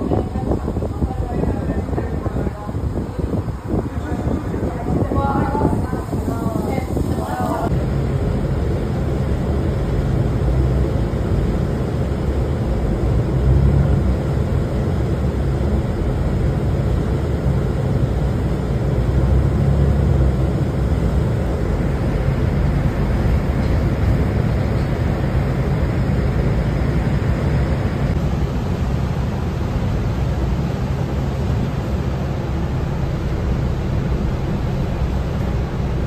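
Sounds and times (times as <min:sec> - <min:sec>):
steady hiss: 0:00.0 - 0:36.0
vehicle engine and tyre rumble: 0:00.0 - 0:36.0.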